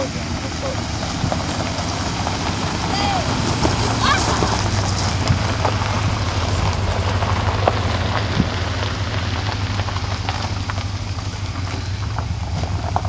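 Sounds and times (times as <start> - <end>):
low engine hum: 0.0 - 13.0
tyres crunching on gravel: 0.0 - 13.0.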